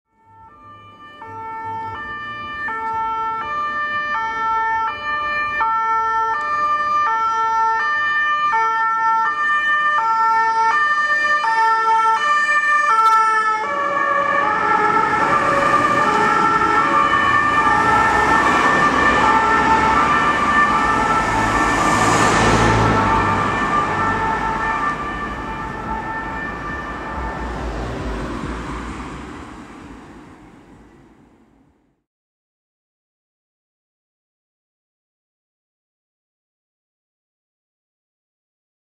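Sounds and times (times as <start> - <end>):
two-tone sirens: 0.1 - 31.7.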